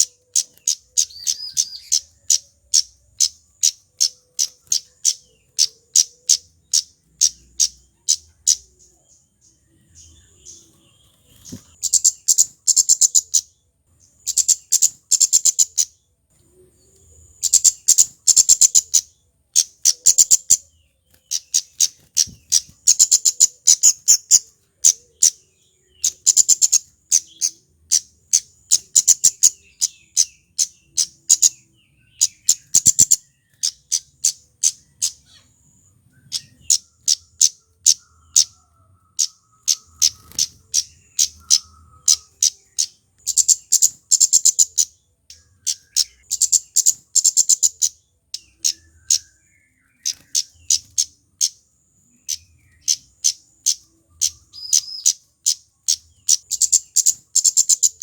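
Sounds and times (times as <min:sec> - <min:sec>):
bird singing high tsit notes: 0:00.0 - 0:58.0.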